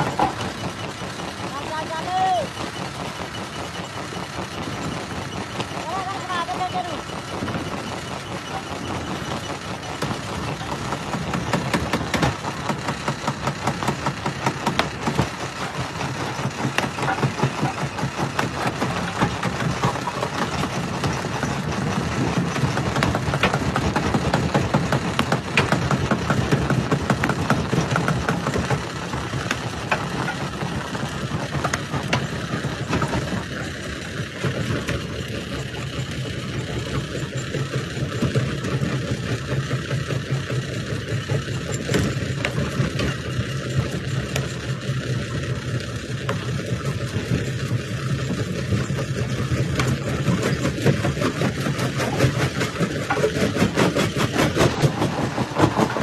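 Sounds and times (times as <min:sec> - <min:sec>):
low machine drone: 0:00.0 - 0:56.0.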